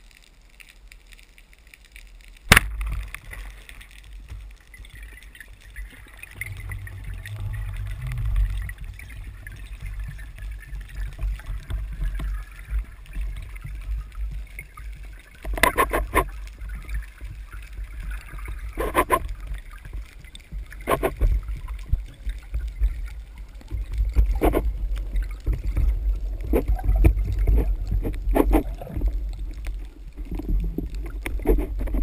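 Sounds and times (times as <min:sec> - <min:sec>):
sharp crackles: 0:00.0 - 0:32.0
underwater water rumble: 0:01.2 - 0:32.0.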